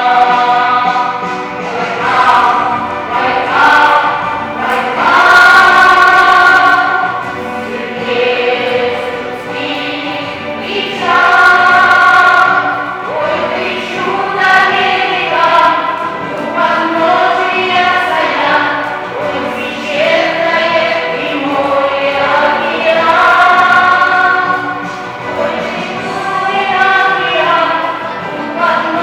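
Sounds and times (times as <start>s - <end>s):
vocal ensemble singing in chorus: 0.0s - 29.0s.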